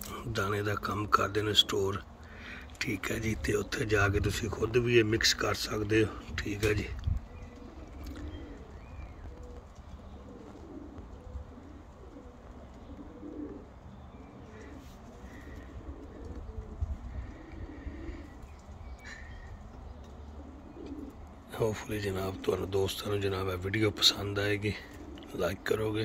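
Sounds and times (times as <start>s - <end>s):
pigeons cooing: 0.0s - 26.0s
small birds chirping: 0.0s - 26.0s.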